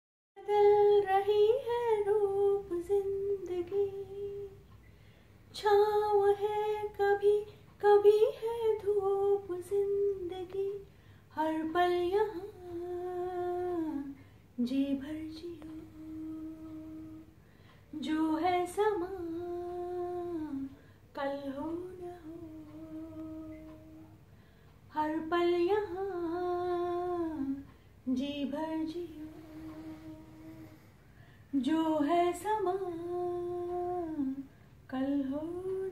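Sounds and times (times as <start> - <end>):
woman singing unaccompanied: 0.4 - 4.8, 5.5 - 24.3, 24.9 - 30.9, 31.5 - 35.9.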